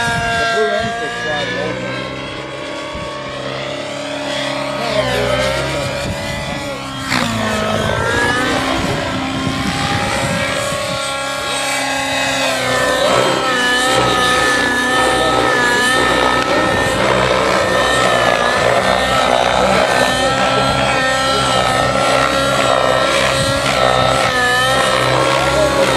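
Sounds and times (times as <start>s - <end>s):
model helicopter engine whine: 0.0s - 25.9s.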